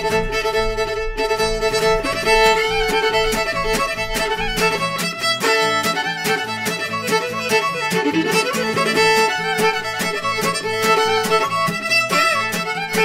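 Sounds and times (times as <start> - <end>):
acoustic guitar strumming: 0.0 - 13.0
fiddle playing: 0.0 - 13.0.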